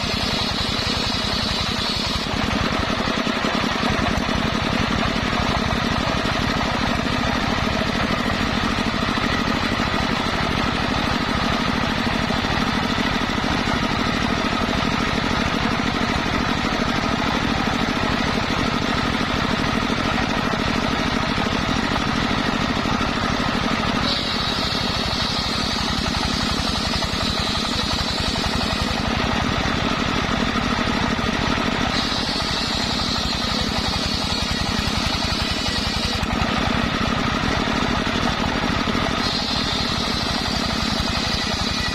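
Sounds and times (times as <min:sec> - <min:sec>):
saw blade whine: 0:00.0 - 0:41.9
saw machine engine running: 0:00.0 - 0:41.9.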